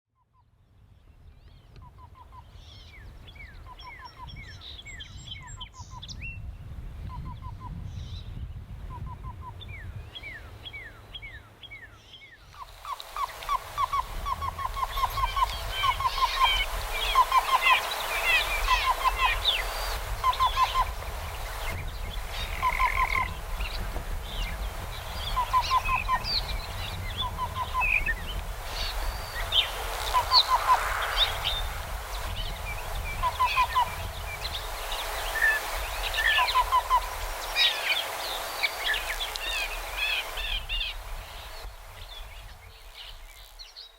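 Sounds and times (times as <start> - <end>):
other birds singing: 0.3 - 43.9.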